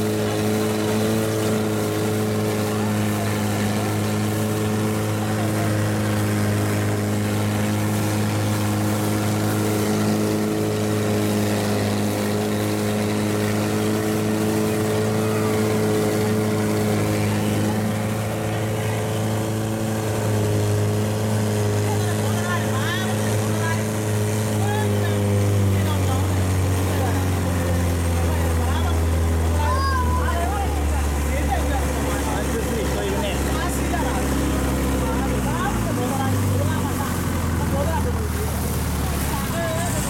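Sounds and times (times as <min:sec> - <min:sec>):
boat engine droning: 0:00.0 - 0:40.0
wind and water rushing: 0:00.0 - 0:40.0.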